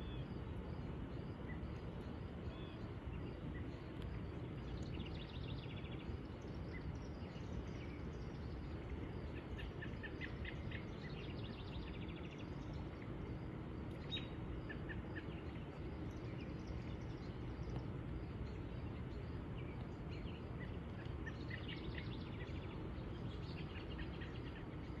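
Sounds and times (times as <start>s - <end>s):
birds chirping: 0.0s - 25.0s
low background rumble: 0.0s - 25.0s.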